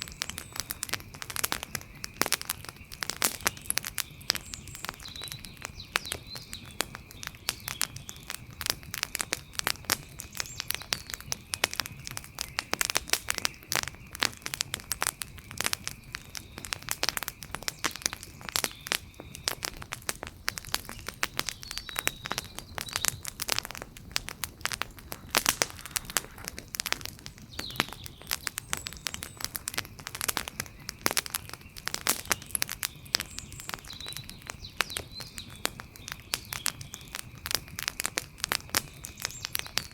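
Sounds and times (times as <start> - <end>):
faint chirps: 0.0 - 39.9
wood fire crackling: 0.0 - 39.9.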